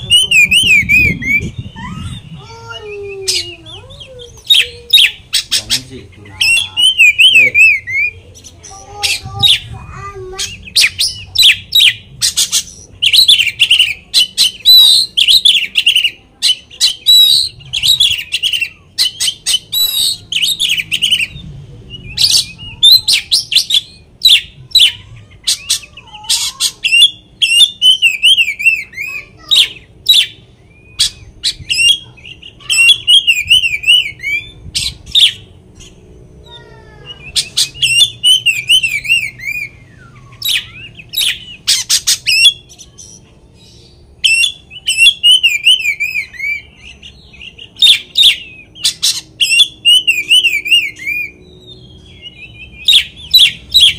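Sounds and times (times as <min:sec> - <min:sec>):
bird singing whistles and trills: 0:00.0 - 0:05.8, 0:06.4 - 0:08.2, 0:10.4 - 0:26.0, 0:26.6 - 0:36.0, 0:37.0 - 0:53.9.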